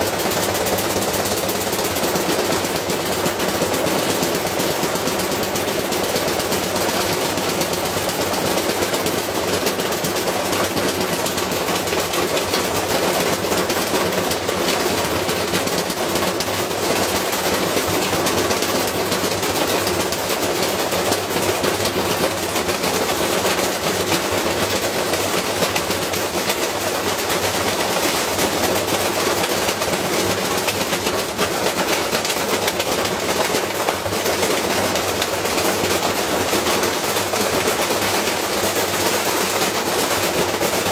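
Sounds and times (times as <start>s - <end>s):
washing machine motor running: 0.0s - 40.9s.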